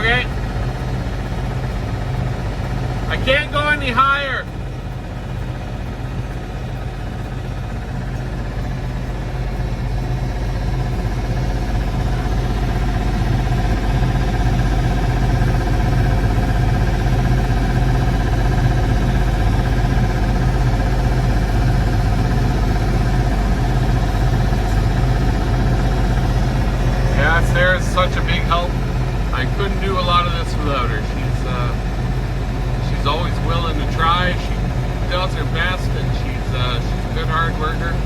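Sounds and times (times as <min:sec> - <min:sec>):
tractor engine idling: 0:00.0 - 0:38.0.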